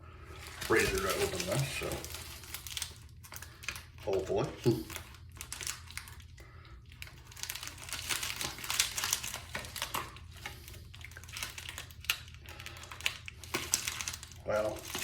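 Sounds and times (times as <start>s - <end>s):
package wrapping crinkling: 0.2s - 15.0s.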